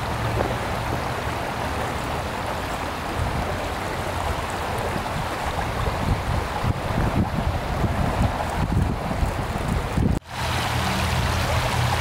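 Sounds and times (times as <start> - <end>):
creek water flowing over rocks: 0.0 - 12.0.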